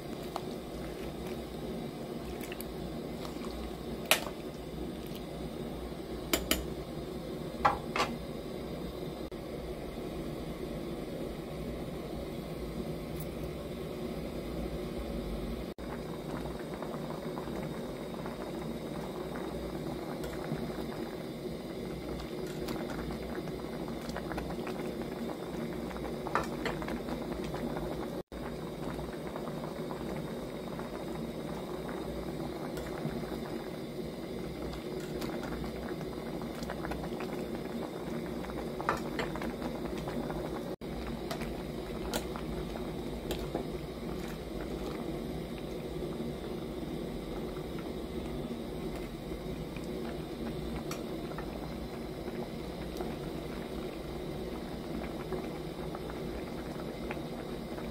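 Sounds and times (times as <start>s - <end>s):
soup boiling: 0.0s - 57.9s.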